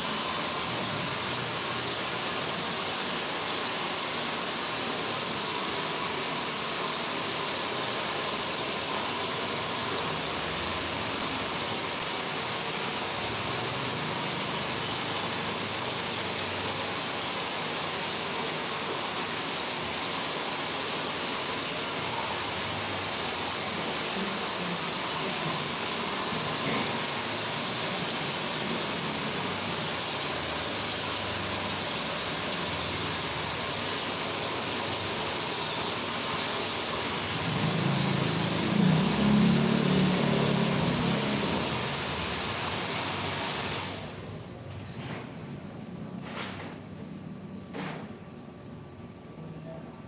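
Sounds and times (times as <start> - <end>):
hair dryer blowing: 0.0 - 44.3.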